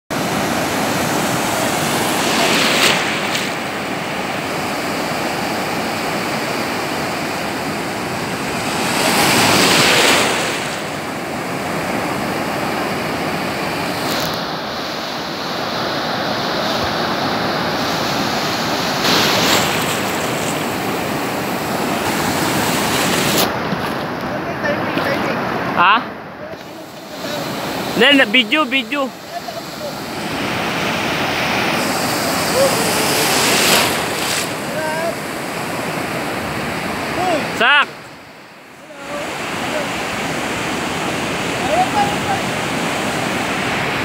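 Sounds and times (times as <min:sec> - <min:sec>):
ocean waves breaking: 0:00.1 - 0:44.0.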